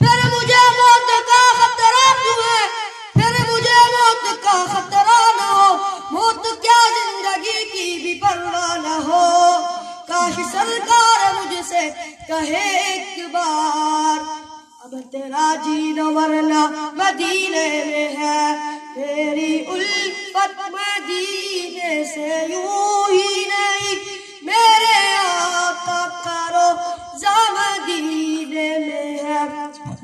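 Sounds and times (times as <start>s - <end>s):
boy singing into microphone: 0.0s - 30.0s.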